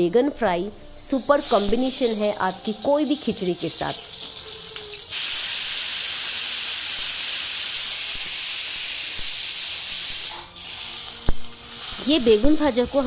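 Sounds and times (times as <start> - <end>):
pressure cooker steam hiss: 1.2 - 13.0.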